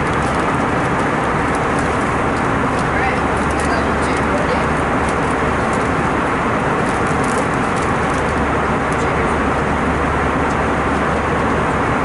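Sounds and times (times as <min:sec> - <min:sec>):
jet cabin engine rush: 0:00.0 - 0:12.0.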